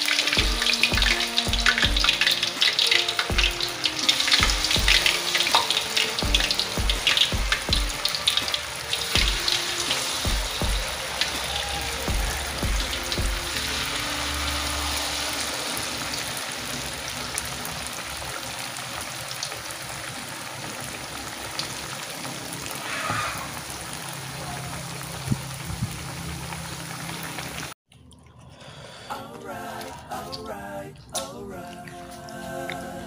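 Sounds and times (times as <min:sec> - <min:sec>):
deep-frying sizzle: 0:00.0 - 0:27.8.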